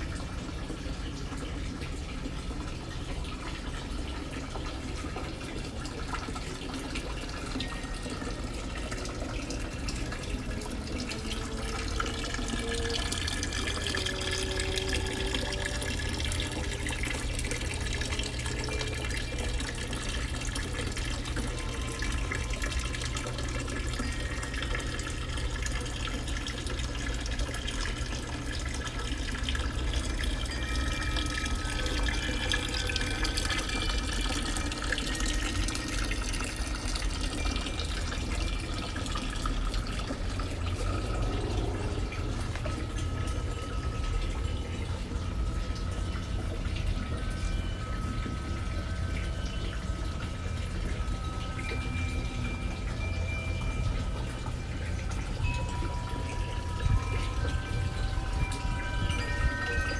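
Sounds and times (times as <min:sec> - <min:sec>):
water trickling into stone basin: 0:00.0 - 0:59.9.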